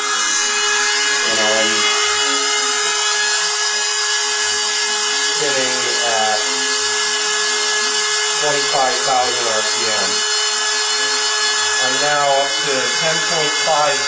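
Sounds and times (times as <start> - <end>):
turbine whine: 0.0 - 14.0.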